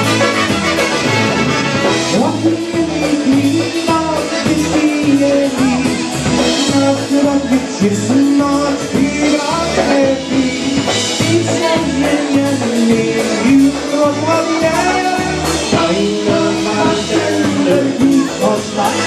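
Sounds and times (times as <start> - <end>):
polka band playing: 0.0 - 19.0.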